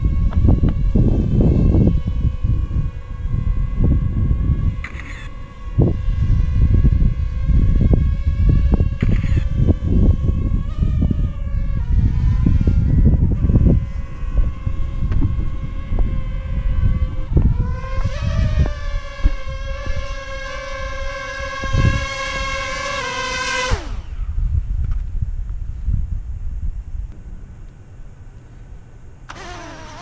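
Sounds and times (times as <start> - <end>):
high whine with overtones: 0.0 - 30.0
wind buffeting microphone: 0.0 - 30.0.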